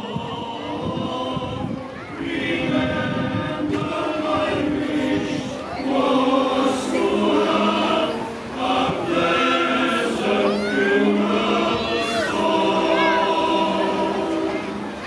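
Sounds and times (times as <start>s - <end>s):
choir singing long chords: 0.0s - 15.0s.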